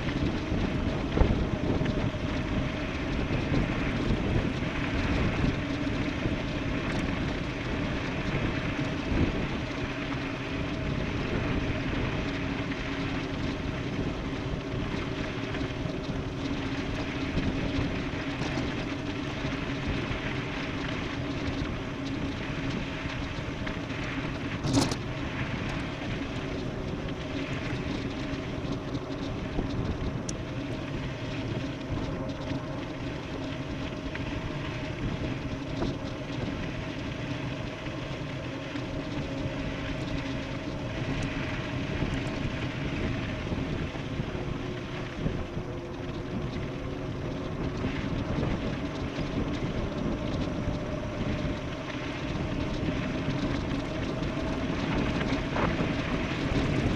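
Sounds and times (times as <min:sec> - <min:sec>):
electric motor whine: 0:00.0 - 0:56.9
tyre and wind noise: 0:00.0 - 0:56.9.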